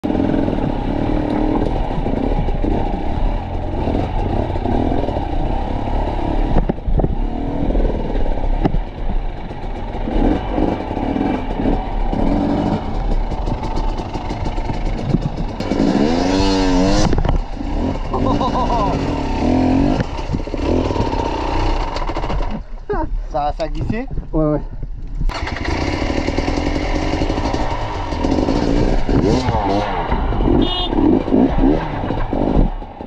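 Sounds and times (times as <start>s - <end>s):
dirt bike engine revving: 0.0s - 22.7s, 25.3s - 33.0s.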